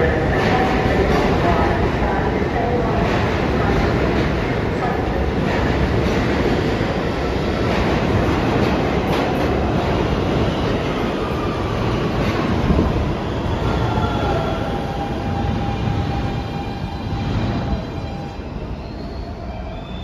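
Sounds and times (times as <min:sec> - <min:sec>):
train wheels rumbling on rail: 0:00.0 - 0:18.8.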